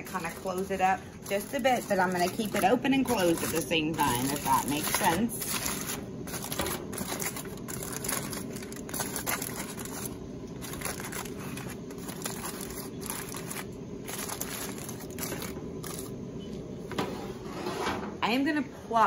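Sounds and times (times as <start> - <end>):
aluminium foil crinkling: 0.0 - 16.2.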